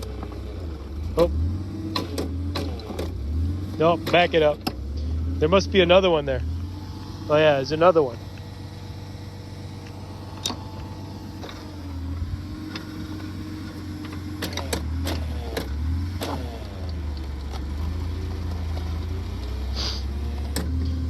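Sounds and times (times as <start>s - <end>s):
auger engine running under load: 0.0s - 21.0s.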